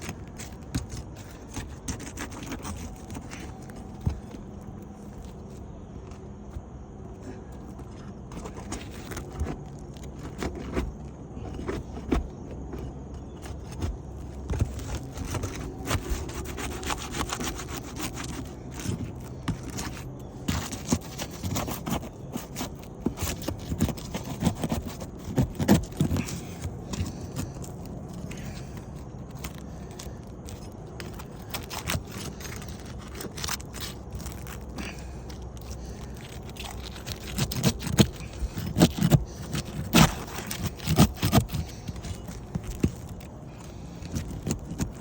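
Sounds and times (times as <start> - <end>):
shingles scraping and clicking: 0.0 - 45.0.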